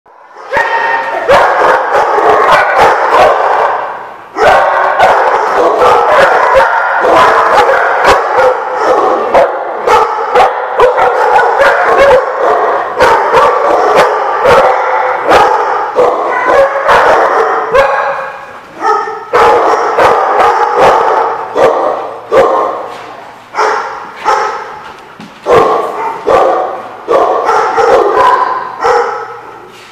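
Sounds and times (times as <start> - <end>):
dogs barking: 0.3 - 24.8, 25.4 - 29.7.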